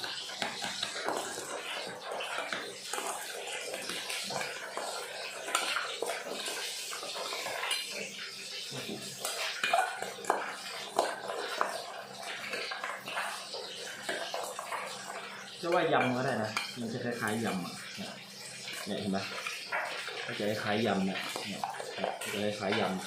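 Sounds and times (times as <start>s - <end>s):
metal spoon scraping a pot: 0.0s - 23.0s.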